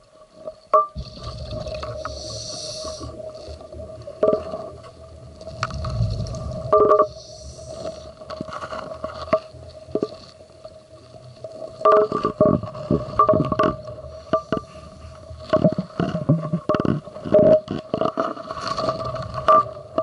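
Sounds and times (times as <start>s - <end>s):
steady underwater hum: 0.0s - 20.0s
regulator bubbling and crackling: 0.6s - 18.2s.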